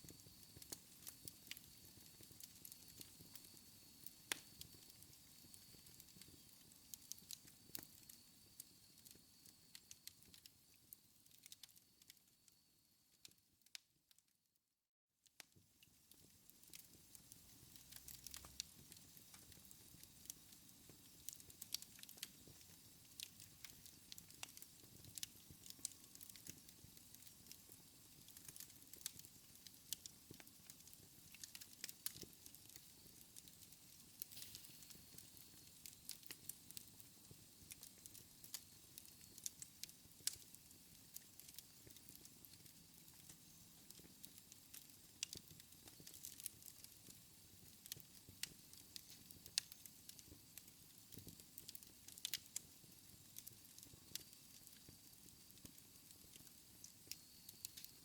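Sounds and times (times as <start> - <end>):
wood fire crackling and popping: 0.0 - 12.2, 15.4 - 58.0.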